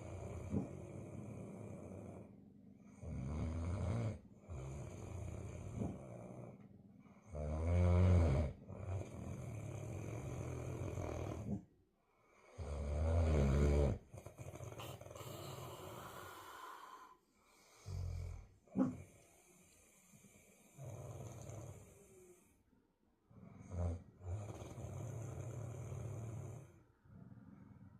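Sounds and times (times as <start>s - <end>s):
pet snoring: 0.0s - 22.6s, 23.3s - 27.8s.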